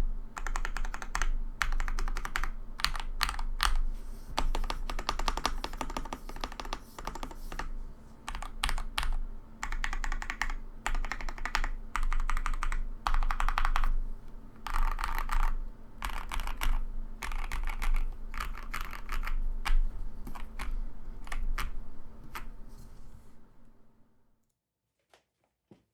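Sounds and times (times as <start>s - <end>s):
mechanical keyboard typing: 0.4s - 3.8s, 4.4s - 14.0s, 14.6s - 22.5s.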